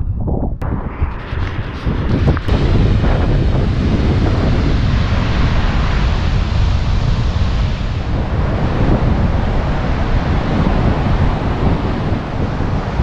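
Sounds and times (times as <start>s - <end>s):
wind buffeting microphone: 0.0s - 13.0s
surf breaking on beach: 0.9s - 13.0s.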